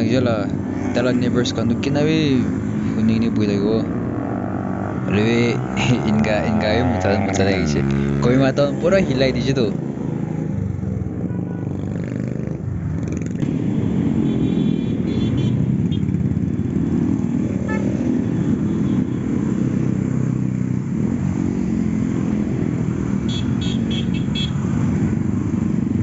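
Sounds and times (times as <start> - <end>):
motorcycles riding past: 0.0 - 26.0.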